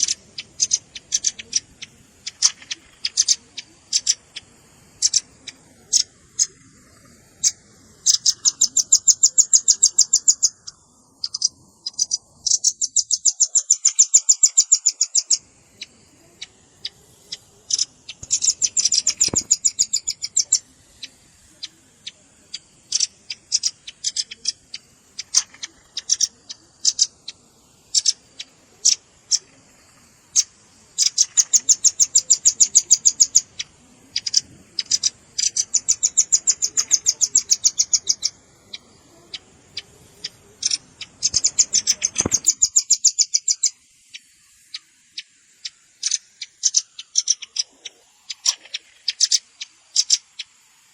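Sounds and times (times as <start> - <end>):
bird chips: 0.0 - 50.5.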